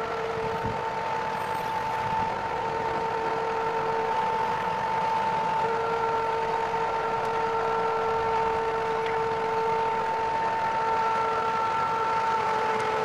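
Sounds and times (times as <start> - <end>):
crane engine drone: 0.0 - 13.0.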